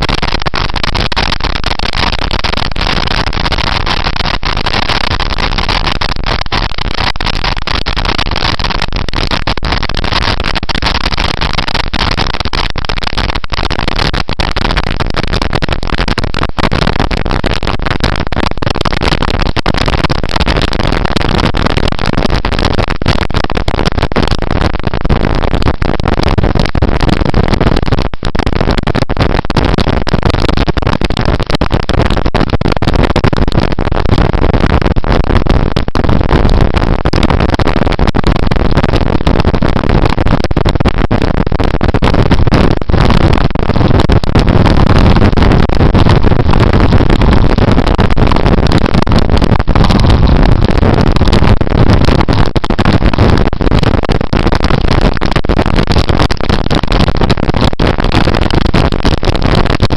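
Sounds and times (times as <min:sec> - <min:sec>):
wind rush on microphone: 0:00.0 - 0:59.9.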